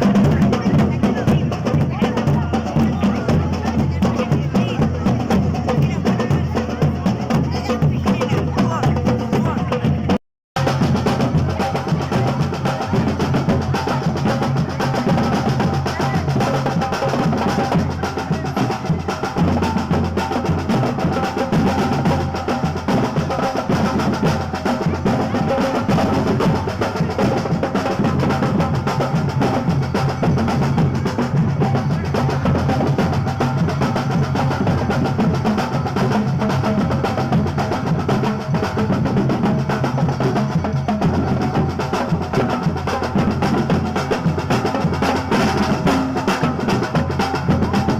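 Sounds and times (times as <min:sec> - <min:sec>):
snare and bass drums beating: 0:00.0 - 0:47.9.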